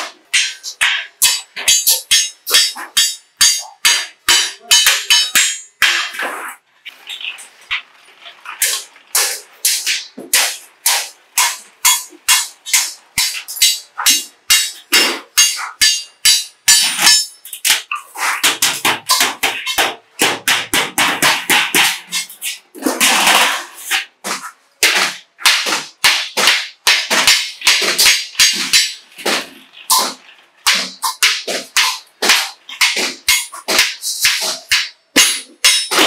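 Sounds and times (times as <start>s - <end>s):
hammer striking sheet metal: 0.0s - 6.3s, 8.6s - 36.0s.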